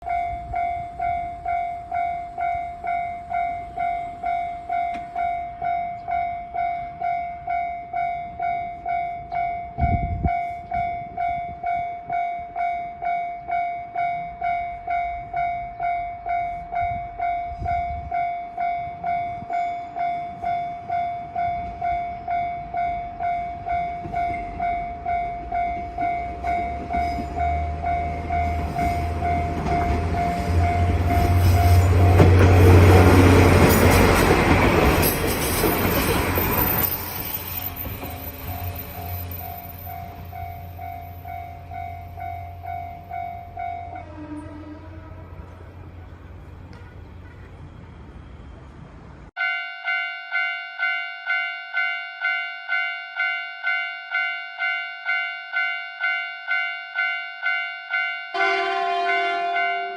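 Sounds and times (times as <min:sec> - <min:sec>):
railway crossing bell ringing: 0:00.0 - 0:44.2, 0:49.4 - 0:59.9
diesel railcar rumble: 0:00.0 - 0:49.4.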